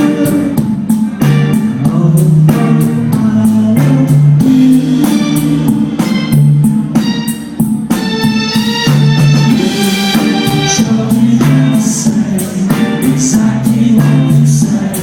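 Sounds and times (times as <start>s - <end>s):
bass guitar: 0.0s - 15.0s
drum kit steady beat: 0.0s - 15.0s.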